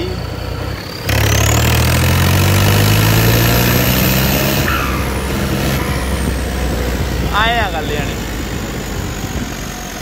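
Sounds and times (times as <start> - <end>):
tractor diesel engine revving: 0.0 - 10.0.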